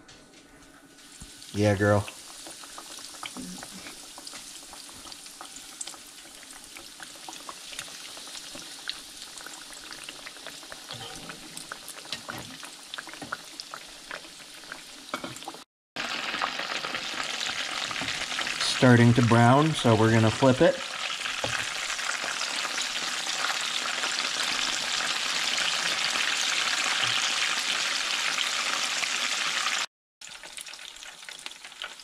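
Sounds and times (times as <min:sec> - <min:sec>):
fish fillets deep-frying in oil: 0:01.0 - 0:32.0.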